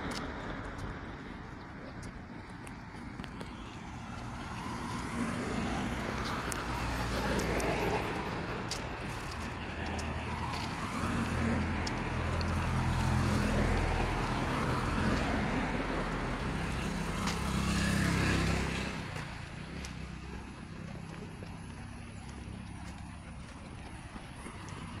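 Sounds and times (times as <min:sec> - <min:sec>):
vehicle engine passing by: 0:03.7 - 0:25.0.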